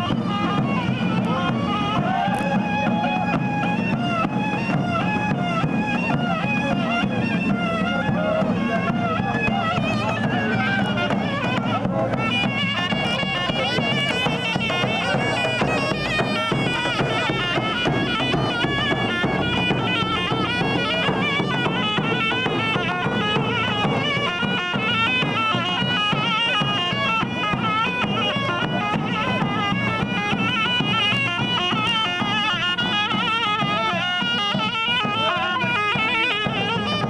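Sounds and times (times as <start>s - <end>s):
shrill reed wind instrument melody: 0.0s - 37.0s.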